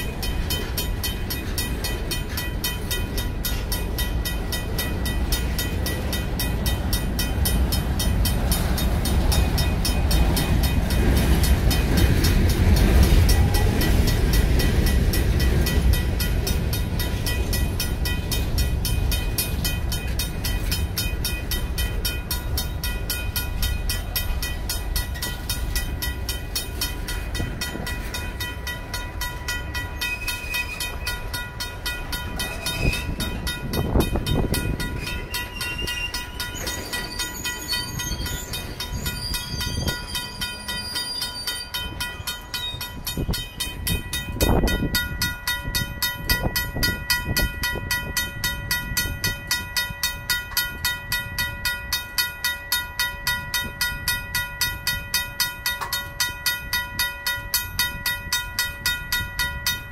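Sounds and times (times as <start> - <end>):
crossing bell ringing: 0.0 - 59.9
freight train wheels rumbling: 0.0 - 59.9.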